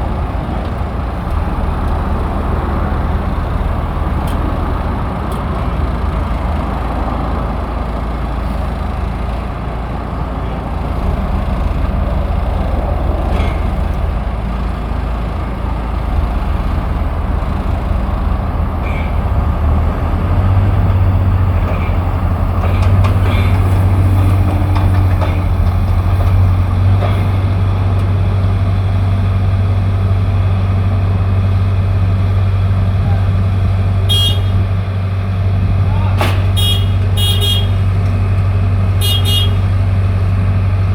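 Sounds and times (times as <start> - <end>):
engine running with low hum: 0.0 - 40.9.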